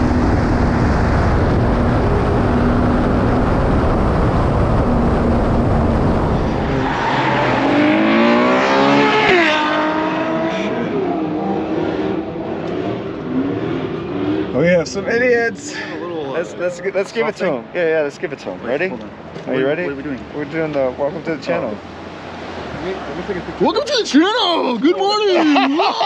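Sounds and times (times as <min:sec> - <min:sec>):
car engine roaring: 0:00.0 - 0:26.0.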